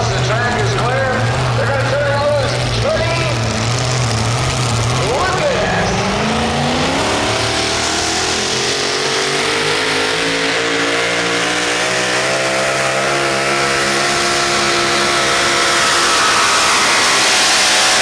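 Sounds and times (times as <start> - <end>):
truck engine at full throttle: 0.0 - 18.0.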